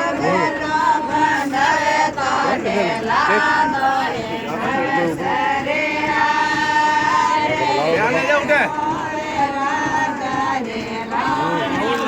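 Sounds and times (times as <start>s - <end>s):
group singing folk chant: 0.0s - 12.0s.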